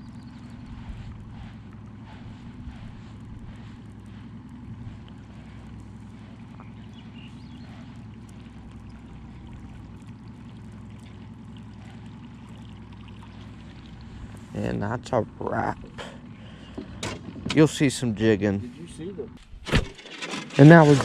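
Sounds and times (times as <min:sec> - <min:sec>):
faint water splashes: 0:00.0 - 0:18.1
boat motor humming: 0:00.0 - 0:21.0.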